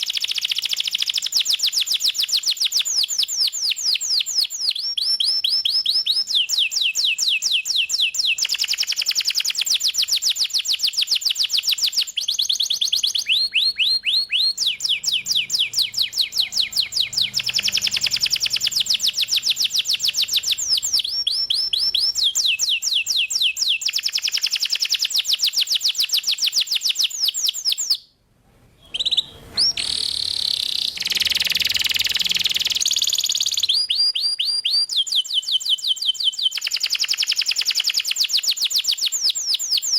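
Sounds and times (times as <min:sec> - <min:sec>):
canary singing trills: 0:00.0 - 0:28.1, 0:28.8 - 0:39.9.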